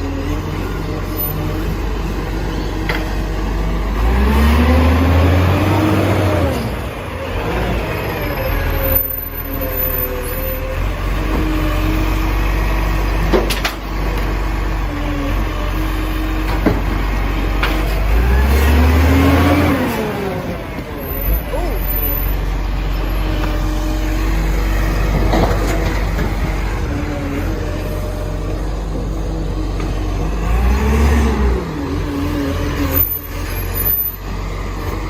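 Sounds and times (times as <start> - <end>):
garbage truck engine revving: 0.0 - 35.0.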